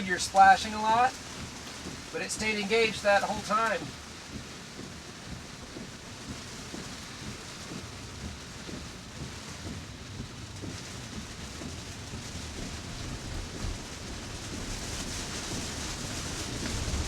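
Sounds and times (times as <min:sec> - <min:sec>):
heavy rain on car roof: 0:00.0 - 0:17.0
low road rumble: 0:00.0 - 0:17.0.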